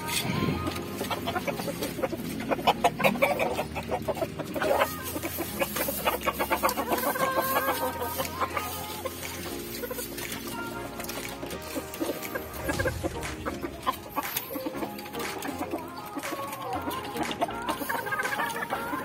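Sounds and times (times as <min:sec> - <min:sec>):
roosters clucking: 0:00.0 - 0:19.0.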